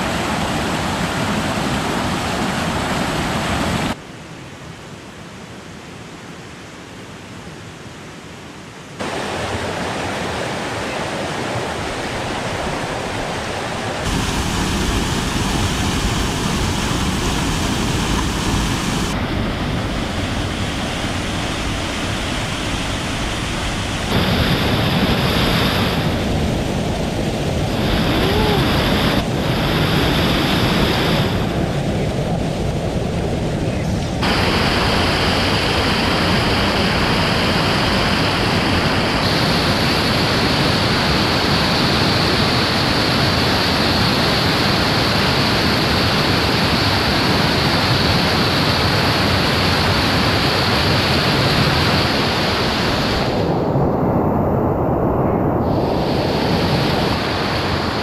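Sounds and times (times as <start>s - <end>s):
mountain stream rushing over rocks: 0.0s - 4.0s, 9.0s - 53.5s.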